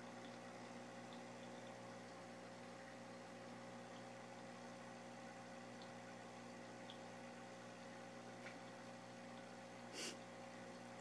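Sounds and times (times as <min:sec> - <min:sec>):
faint hum with hiss: 0:00.0 - 0:11.0.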